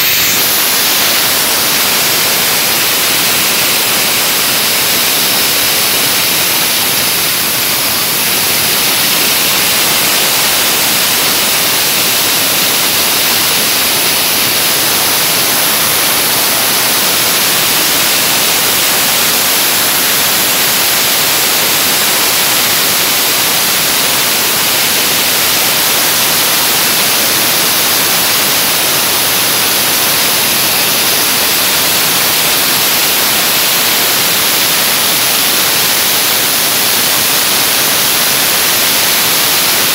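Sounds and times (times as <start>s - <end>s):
dry ice blasting gun hissing: 0.0s - 39.9s.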